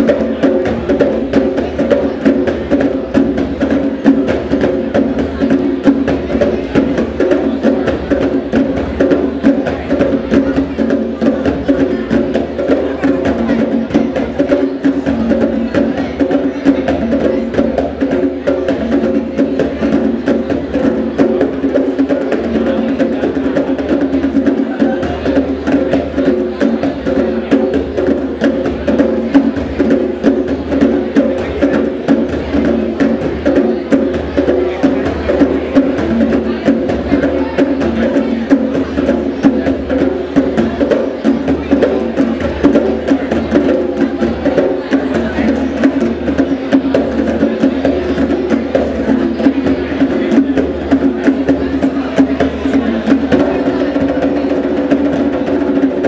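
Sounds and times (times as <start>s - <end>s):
djembes drumming: 0.0s - 56.0s.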